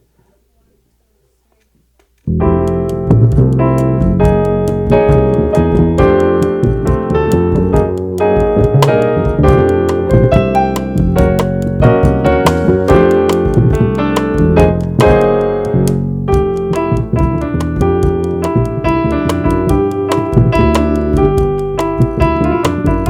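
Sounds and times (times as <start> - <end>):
bass line: 2.3 - 23.0
keyboard chords: 2.3 - 23.0
sharp drum hits: 2.4 - 23.0.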